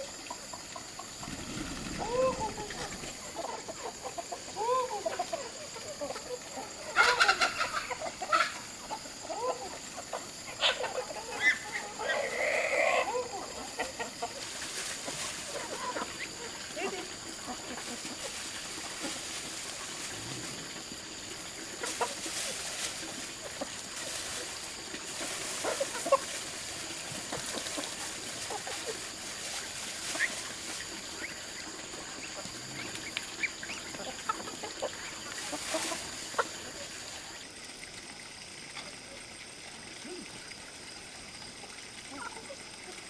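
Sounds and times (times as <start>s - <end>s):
chickens clucking: 0.0s - 37.5s.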